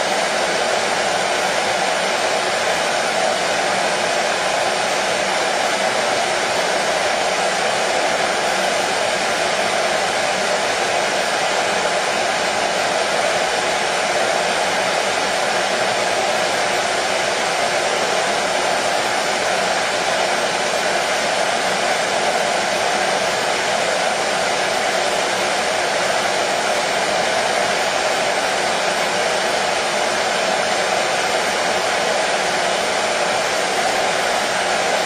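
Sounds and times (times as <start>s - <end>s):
hair dryer blowing: 0.0s - 35.0s.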